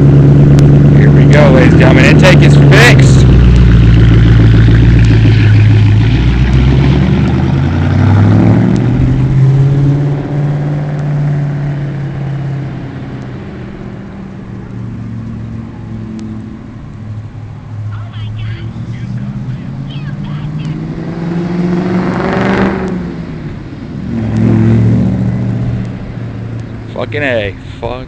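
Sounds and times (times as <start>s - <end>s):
car engine revving: 0.0s - 27.8s.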